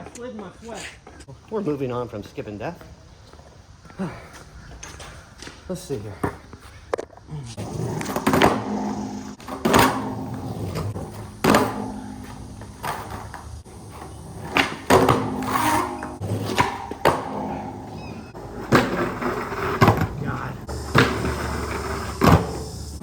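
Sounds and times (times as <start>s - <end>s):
skateboard wheels rumbling on concrete: 0.0s - 23.0s
skateboard clacking on ground: 4.4s - 23.0s.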